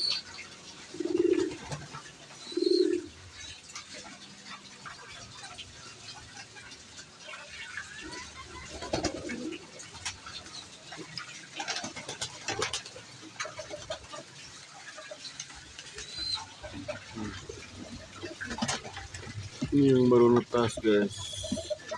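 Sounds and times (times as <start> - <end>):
pigeons cooing: 0.0 - 21.9.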